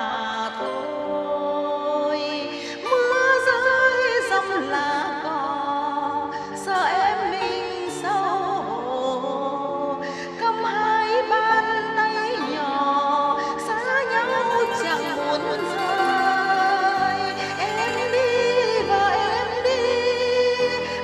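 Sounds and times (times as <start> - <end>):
held backing chords: 0.0 - 21.0
solo voice singing with vibrato: 0.0 - 21.0.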